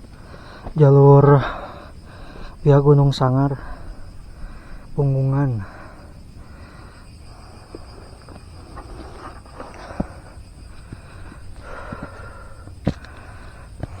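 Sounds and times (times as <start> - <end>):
footsteps on forest trail: 0.0 - 14.0
insects chirring: 0.0 - 14.0.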